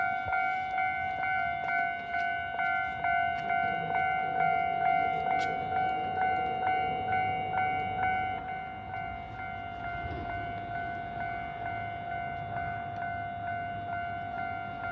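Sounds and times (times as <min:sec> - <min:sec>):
level crossing warning bell: 0:00.0 - 0:14.9.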